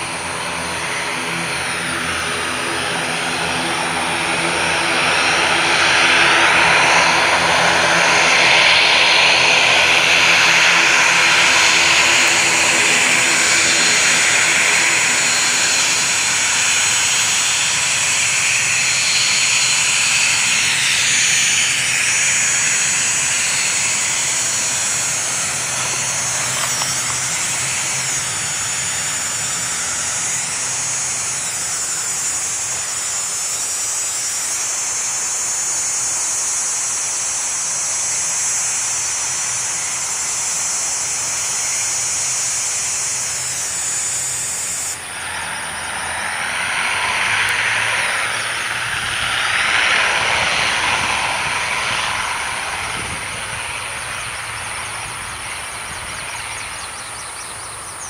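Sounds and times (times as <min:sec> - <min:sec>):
rushing engine noise: 0:00.0 - 0:58.0
turboprop engine hum with whine: 0:00.0 - 0:58.0.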